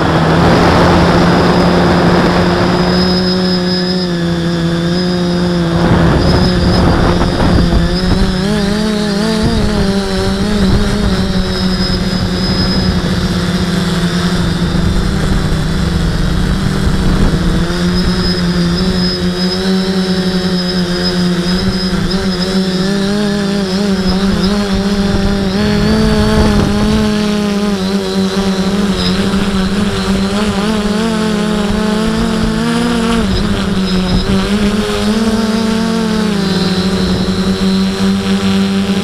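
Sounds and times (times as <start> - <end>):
model aircraft motor drone: 0.0 - 39.0
wind buffeting microphone: 0.0 - 39.0.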